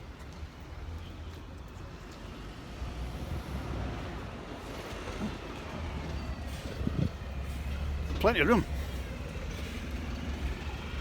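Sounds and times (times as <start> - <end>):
traffic low rumble: 0.0 - 11.0.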